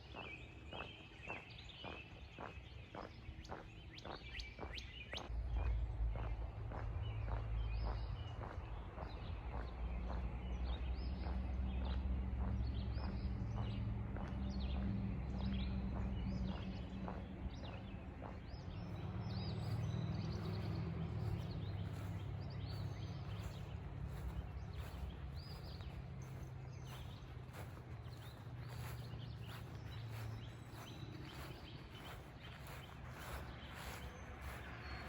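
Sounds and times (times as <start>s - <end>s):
faint footstep-like ticks: 0.2s - 35.0s
low steady rumble: 5.2s - 35.0s
birds chirping and calling: 6.7s - 35.0s.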